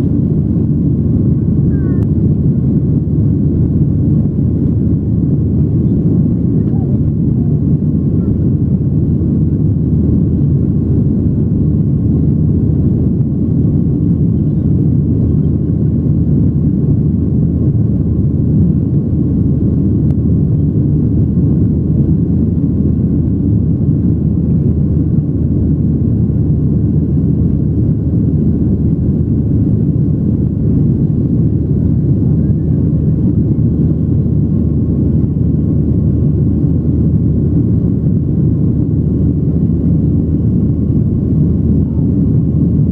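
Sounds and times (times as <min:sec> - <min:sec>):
jet engine rumble in cabin: 0:00.0 - 0:42.9.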